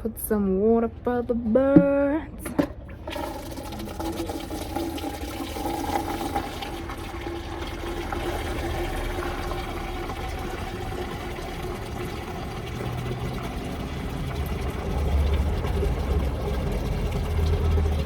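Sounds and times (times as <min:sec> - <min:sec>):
water running into container: 0:02.4 - 0:18.0.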